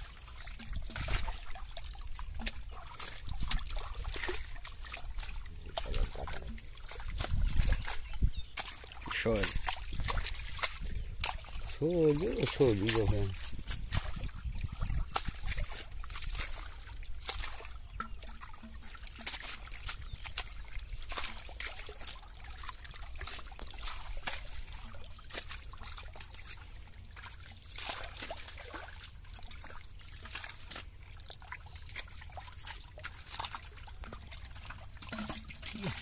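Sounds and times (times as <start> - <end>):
hands splashing in muddy water: 0.0 - 36.0.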